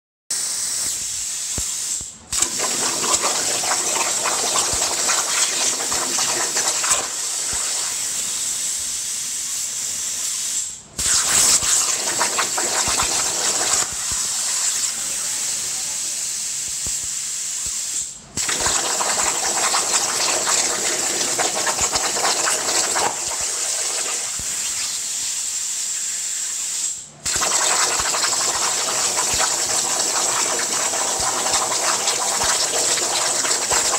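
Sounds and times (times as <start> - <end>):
plasma torch hissing: 0.3 - 33.9.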